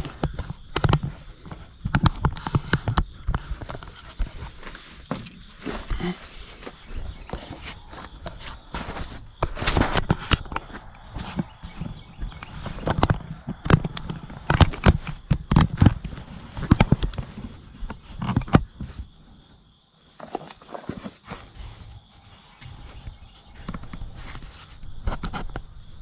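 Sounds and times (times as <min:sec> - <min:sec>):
footsteps: 0:00.0 - 0:19.2, 0:20.2 - 0:26.0
high-pitched insect drone: 0:00.0 - 0:26.0.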